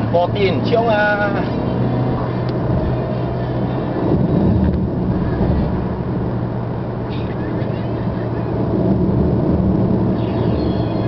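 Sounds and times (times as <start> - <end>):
car engine drone: 0.0 - 11.0
tyre and road rumble: 0.0 - 11.0.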